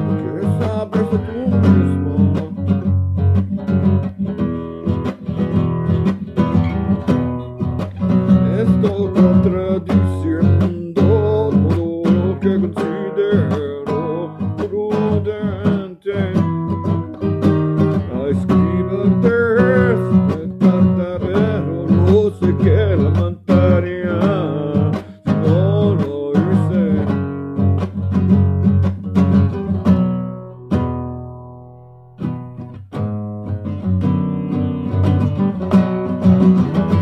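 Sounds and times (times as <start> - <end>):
charango strumming: 0.0 - 37.0.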